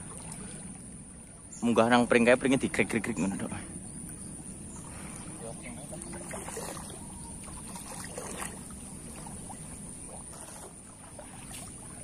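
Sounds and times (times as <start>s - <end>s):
wading through splashing water: 0.0s - 1.5s, 2.7s - 12.0s.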